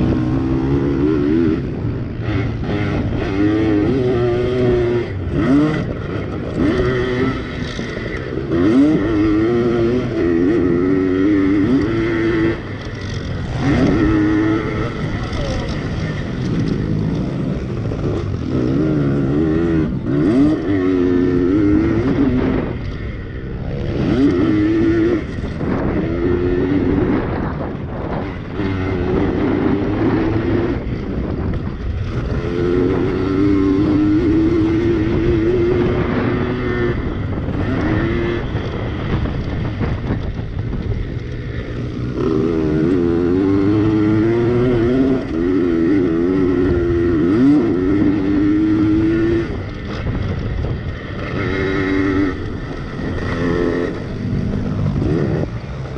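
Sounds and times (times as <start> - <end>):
pit bike engines revving: 0.0 - 55.9.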